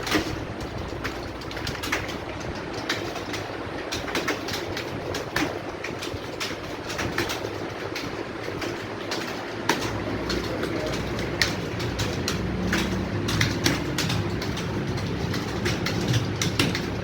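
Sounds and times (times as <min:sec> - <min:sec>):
keyboard typing clatter: 0:00.0 - 0:17.0.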